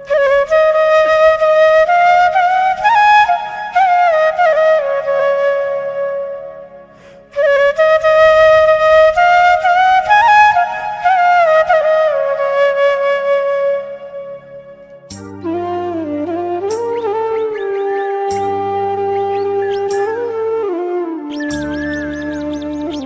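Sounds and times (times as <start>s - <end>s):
flute melody: 0.0s - 23.0s.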